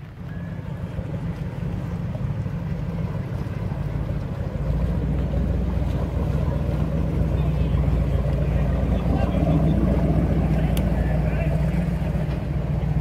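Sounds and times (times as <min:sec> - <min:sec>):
motorboat engines rumbling: 0:00.0 - 0:13.0.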